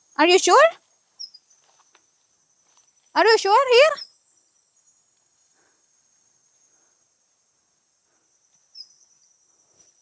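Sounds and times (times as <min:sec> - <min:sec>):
crickets calling: 0:00.0 - 0:10.0
high-pitched insect chorus: 0:00.0 - 0:10.0.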